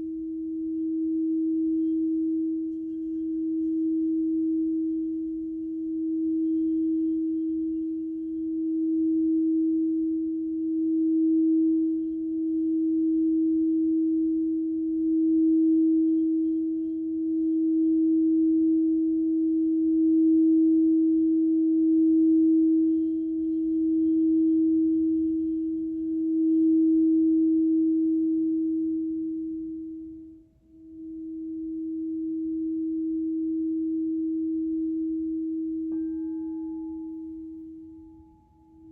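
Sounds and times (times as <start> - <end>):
singing bowl tone: 0.0 - 38.9.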